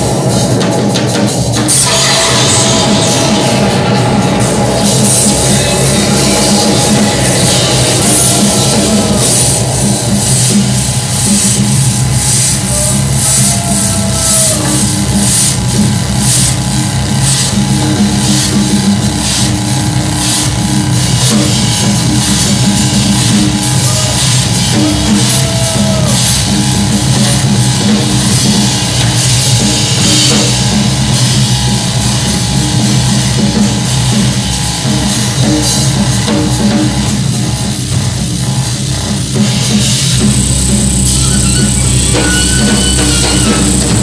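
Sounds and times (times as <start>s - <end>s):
cymbals crashing: 0.0s - 44.0s
droning electronics: 0.0s - 44.0s
drum kit played fast: 0.0s - 44.0s.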